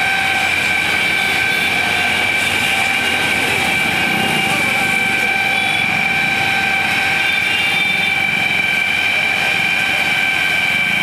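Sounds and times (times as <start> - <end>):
fire engine pump whining: 0.0 - 11.0.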